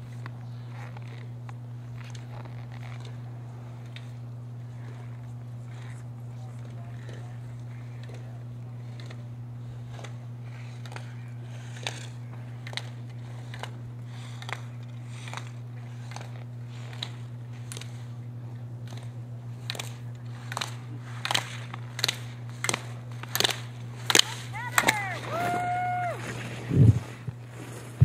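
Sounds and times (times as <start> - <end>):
low electrical hum: 0.0 - 28.0
skis scraping on snow: 0.0 - 28.0.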